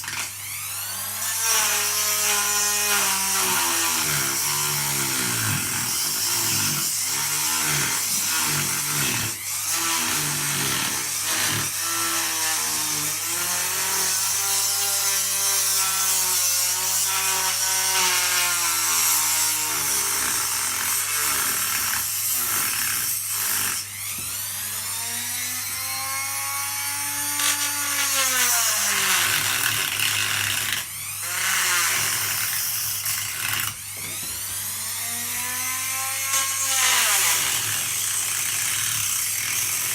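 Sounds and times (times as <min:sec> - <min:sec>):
blade grinding tile: 0:00.0 - 0:24.4, 0:25.4 - 0:39.9
tile saw motor whining: 0:00.0 - 0:39.9.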